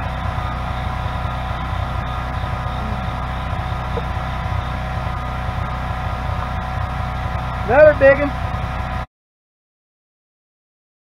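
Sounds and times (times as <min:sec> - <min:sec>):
low mechanical hum: 0:00.0 - 0:09.1.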